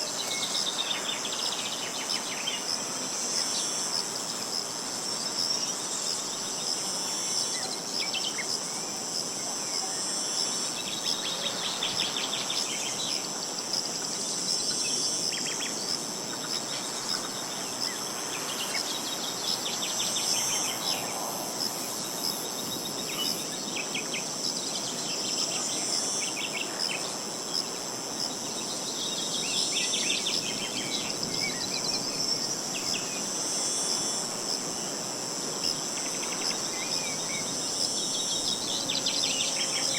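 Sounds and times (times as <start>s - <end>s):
high-pitched insect chorus: 0.0s - 39.9s
wind hiss: 0.0s - 39.9s.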